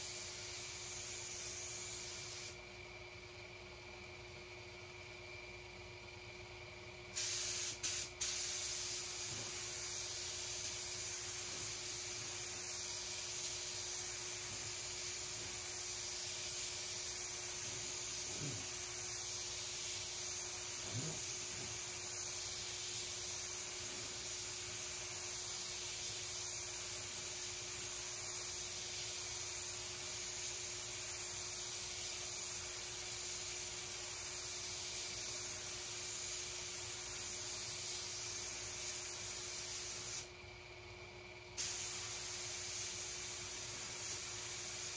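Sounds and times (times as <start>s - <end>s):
paint spray gun hissing: 0.0s - 2.6s, 7.1s - 40.3s, 41.6s - 44.9s
faint steady hum: 0.0s - 44.9s.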